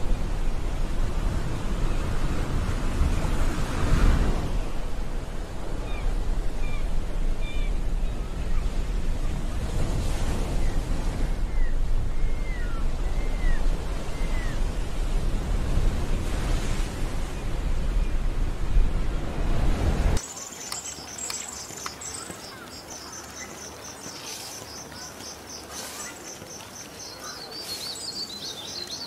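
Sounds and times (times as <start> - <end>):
ocean waves: 0.0 - 29.0.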